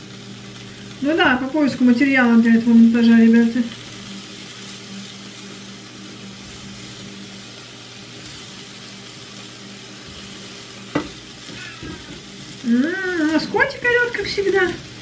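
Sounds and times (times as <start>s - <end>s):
fat sizzling in a frying pan: 0.0s - 15.0s.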